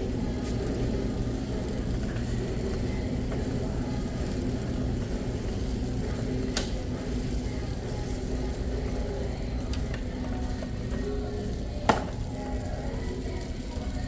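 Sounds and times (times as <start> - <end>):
low store ambience hum: 0.0 - 14.0.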